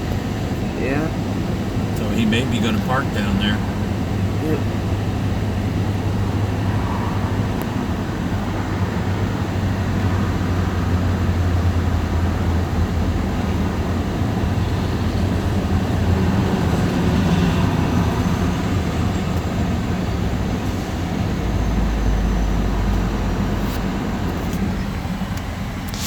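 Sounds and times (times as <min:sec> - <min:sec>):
diesel locomotive drone: 0:00.0 - 0:26.0
wheels rumbling on rail: 0:00.0 - 0:26.0.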